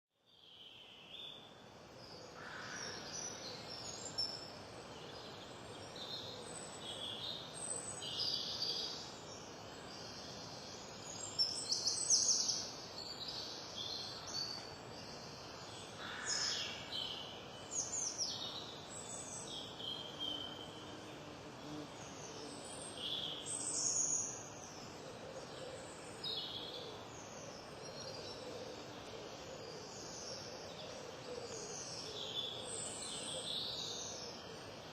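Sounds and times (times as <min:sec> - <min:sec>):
background hiss: 0:00.2 - 0:34.9
songbirds chirping: 0:00.2 - 0:34.9.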